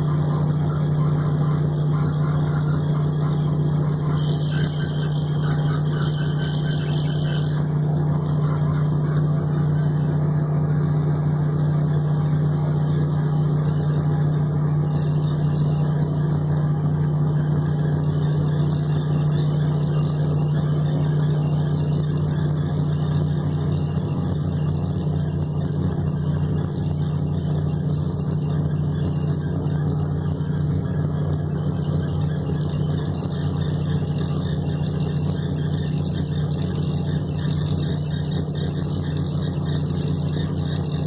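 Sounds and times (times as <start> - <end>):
steady mechanical hum: 0.0 - 41.0.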